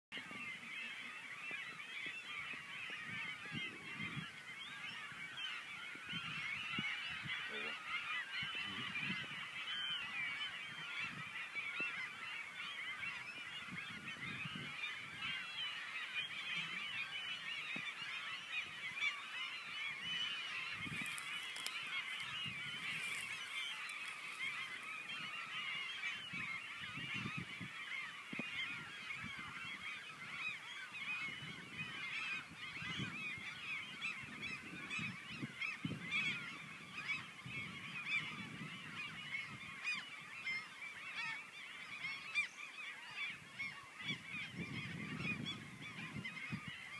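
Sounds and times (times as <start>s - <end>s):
flock of geese honking: 0.2s - 46.9s.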